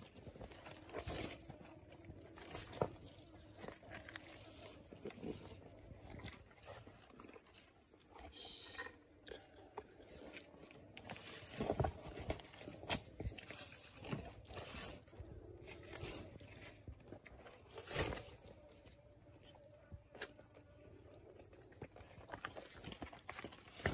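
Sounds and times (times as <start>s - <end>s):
jaws crunching flesh and bone: 0.0s - 8.1s, 9.1s - 23.9s.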